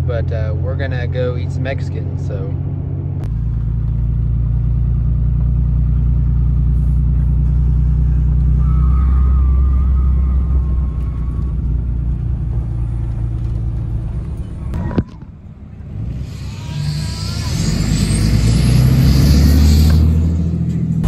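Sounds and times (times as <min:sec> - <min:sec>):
truck engine rumble: 0:00.0 - 0:21.0.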